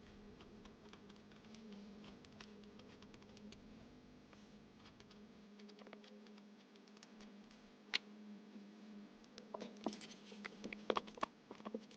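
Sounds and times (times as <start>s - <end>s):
faint steady hum: 0.0s - 11.9s.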